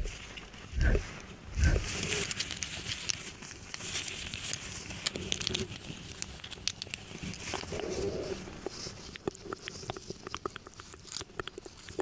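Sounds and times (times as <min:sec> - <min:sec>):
crinkling and crackling: 0:00.0 - 0:12.0.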